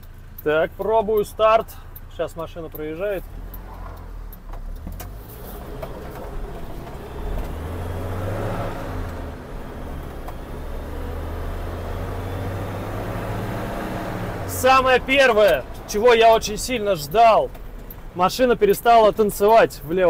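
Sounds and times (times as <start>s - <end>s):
van engine and road noise: 0.0s - 20.0s.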